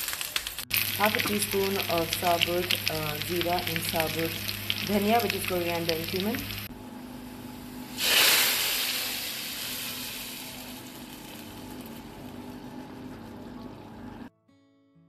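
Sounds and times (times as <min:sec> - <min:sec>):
hot oil sizzling: 0:00.0 - 0:06.7, 0:07.3 - 0:13.1.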